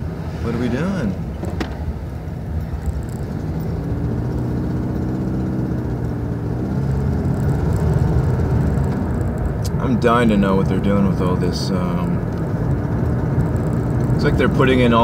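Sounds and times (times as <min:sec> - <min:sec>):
car engine hum: 0:00.0 - 0:15.0
road noise inside car: 0:00.0 - 0:15.0.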